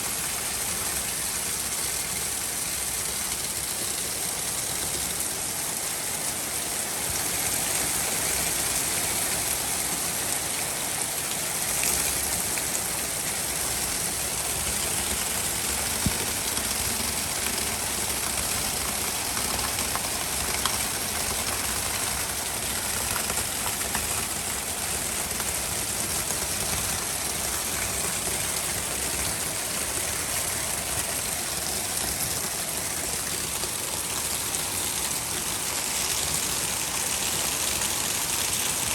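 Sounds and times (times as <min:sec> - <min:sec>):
heavy rain falling: 0:00.2 - 0:38.9.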